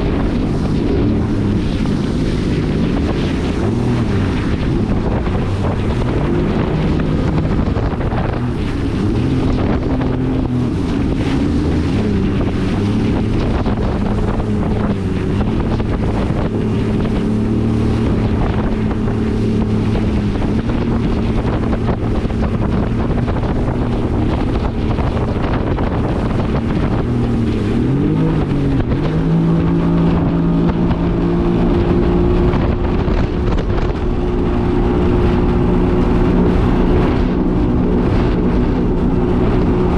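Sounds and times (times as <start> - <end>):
personal watercraft engine running: 0.0 - 39.9
water rushing past hull: 0.0 - 39.9
wind buffeting microphone: 0.0 - 39.9.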